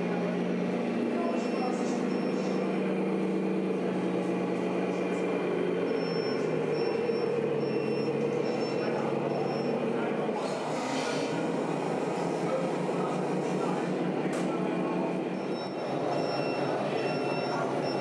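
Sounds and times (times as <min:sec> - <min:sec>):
model truck motor drone: 0:00.0 - 0:18.0.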